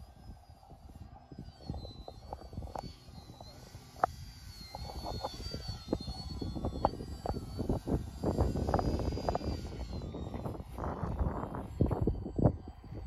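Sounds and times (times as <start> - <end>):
model airplane motor whine: 0.0 - 13.0
wind buffeting microphone: 0.7 - 13.0.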